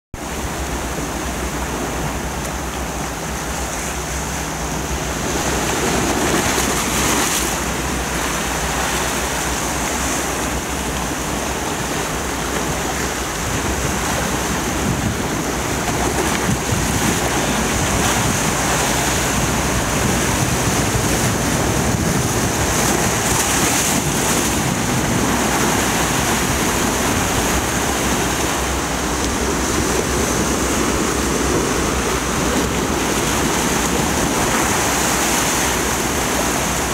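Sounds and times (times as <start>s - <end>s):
surf washing over rocks: 0.2s - 36.9s.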